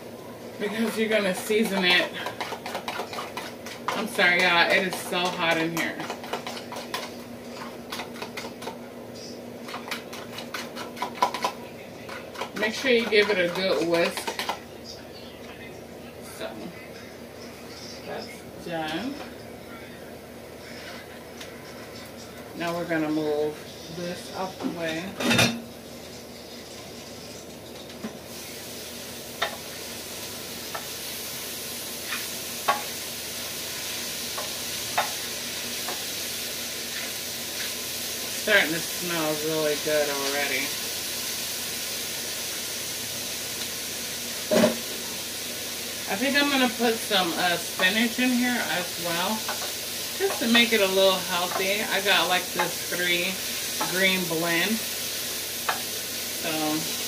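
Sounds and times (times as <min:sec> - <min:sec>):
vegetables sizzling in a skillet: 0:00.0 - 0:57.0.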